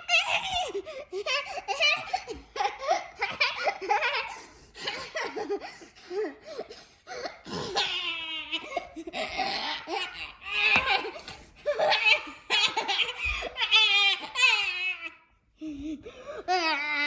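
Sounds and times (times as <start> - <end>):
high-pitched giggling and laughing: 0.0 - 15.0.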